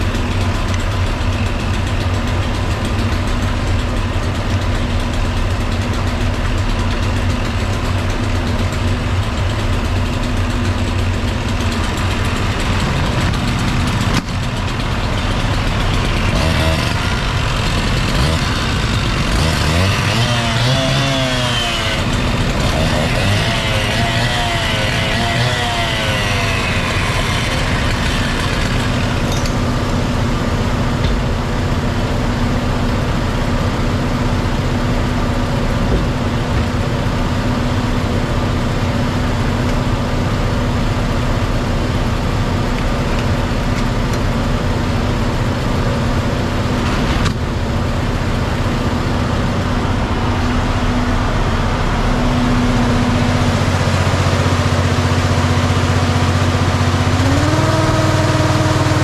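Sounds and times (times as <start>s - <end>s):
fire truck engine idling: 0.0s - 19.5s, 21.8s - 22.9s, 26.3s - 59.0s.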